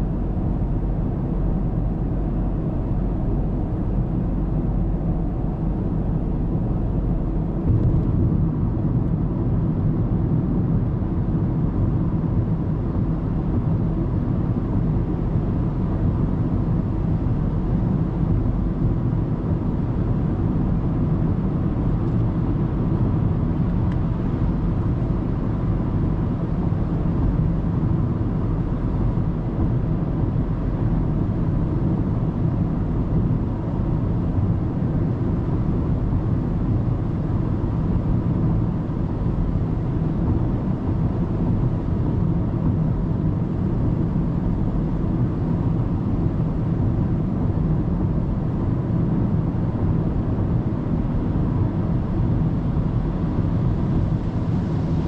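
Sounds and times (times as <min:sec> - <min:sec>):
car tyre and engine drone: 0:00.0 - 0:55.0.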